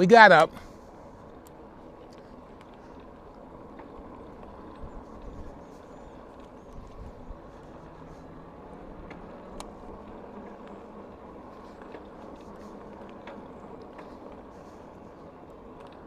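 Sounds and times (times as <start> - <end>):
bicycle rolling on trail: 0.0 - 16.0
faint ticks: 1.2 - 16.0.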